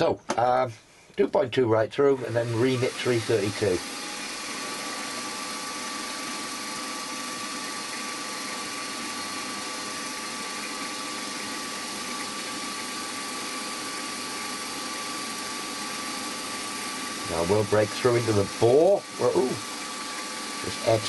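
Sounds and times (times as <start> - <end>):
milling machine motor hiss: 2.0 - 21.0
steady drill whine: 2.0 - 21.0.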